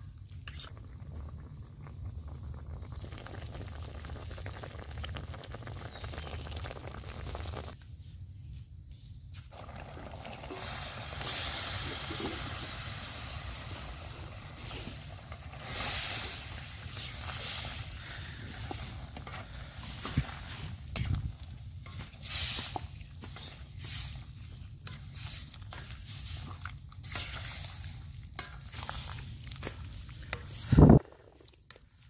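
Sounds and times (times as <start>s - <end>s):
eggs sizzling in a wok: 0.0s - 7.8s, 9.5s - 32.0s
wood fire crackling: 0.0s - 7.8s, 9.5s - 31.7s.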